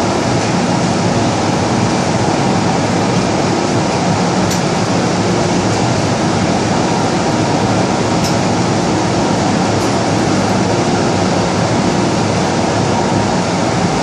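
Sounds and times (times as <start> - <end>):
train equipment hum and hiss: 0.0 - 14.0.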